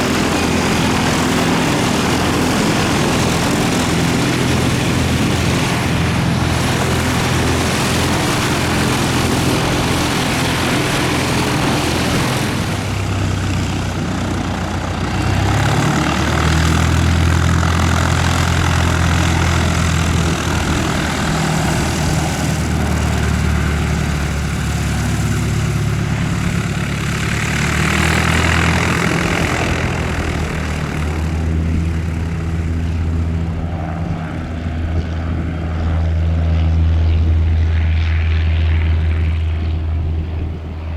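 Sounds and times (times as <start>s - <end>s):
light aircraft engine droning: 0.0s - 40.9s.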